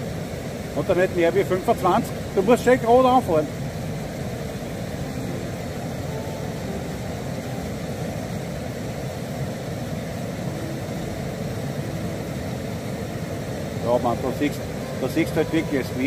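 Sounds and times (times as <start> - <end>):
low rushing noise: 0.0 - 16.0.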